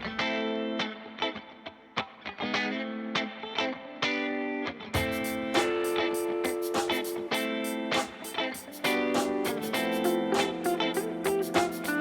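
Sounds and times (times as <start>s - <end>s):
strummed guitar music: 0.0s - 12.0s.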